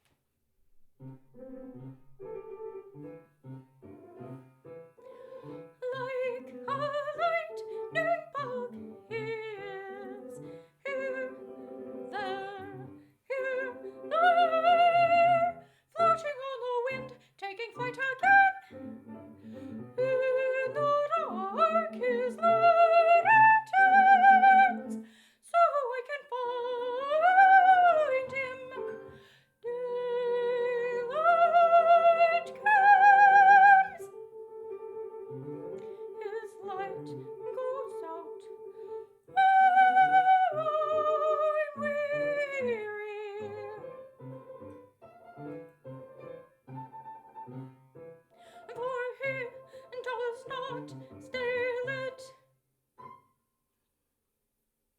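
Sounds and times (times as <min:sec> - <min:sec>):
piano accompaniment: 0:00.7 - 0:25.2, 0:26.6 - 0:52.3, 0:53.0 - 0:53.3
soprano singing opera: 0:04.2 - 0:44.8, 0:48.4 - 0:52.4.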